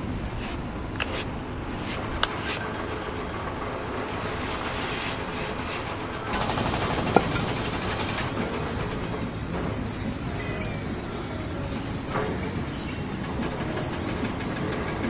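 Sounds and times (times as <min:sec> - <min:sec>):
machinery noise: 0:01.7 - 0:15.0
fast mechanical rattle: 0:02.0 - 0:15.0.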